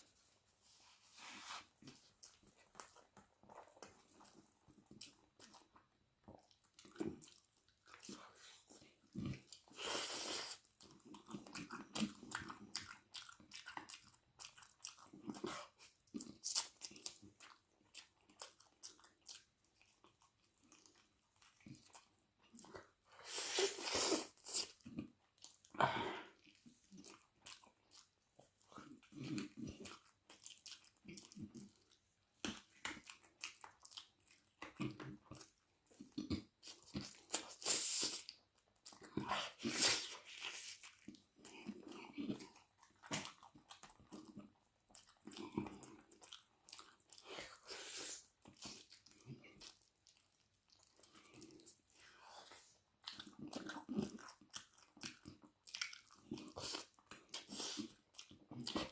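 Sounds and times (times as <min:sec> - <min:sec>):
wet chewing and smacking: 0:00.0 - 0:58.9.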